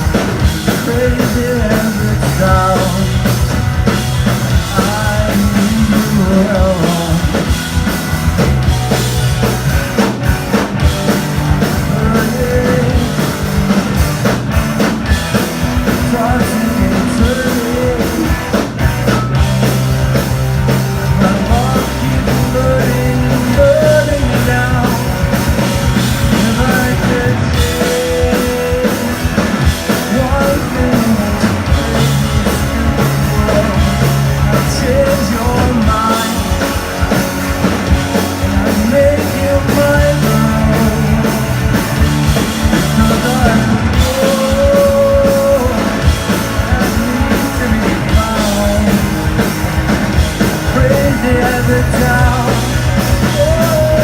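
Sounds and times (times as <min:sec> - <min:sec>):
person singing: 0:00.0 - 0:03.6, 0:04.4 - 0:07.7, 0:11.4 - 0:13.9, 0:15.2 - 0:19.2, 0:20.6 - 0:37.2, 0:38.4 - 0:49.4, 0:50.6 - 0:54.0
live rock band playing: 0:00.0 - 0:54.0.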